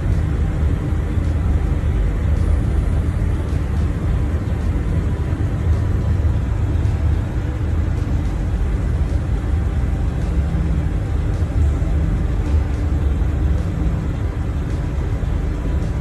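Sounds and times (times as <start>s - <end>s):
road noise inside moving vehicle: 0.0s - 16.0s.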